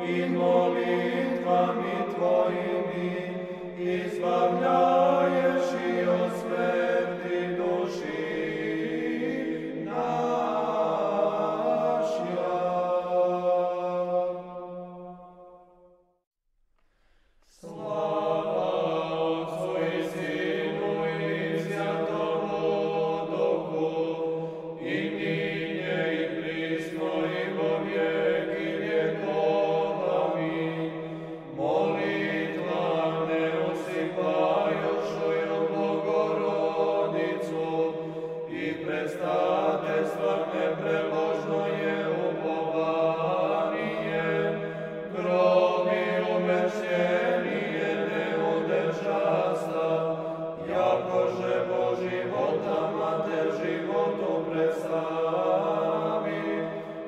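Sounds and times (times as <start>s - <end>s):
voices chanting a hymn: 0.0s - 15.4s, 17.5s - 57.0s.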